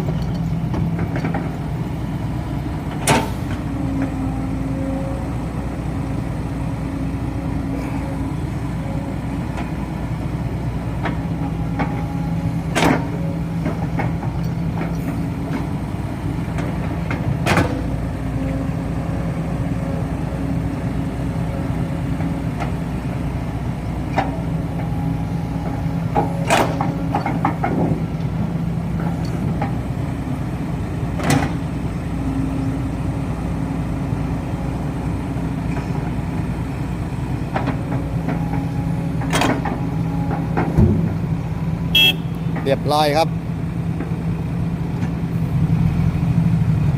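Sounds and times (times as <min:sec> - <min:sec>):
heavy diesel engines running: 0:00.0 - 0:46.9.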